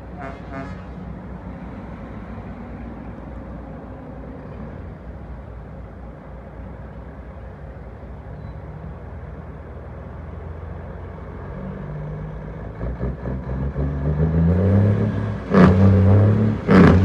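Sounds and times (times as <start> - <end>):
passing cars: 0.0 - 17.0.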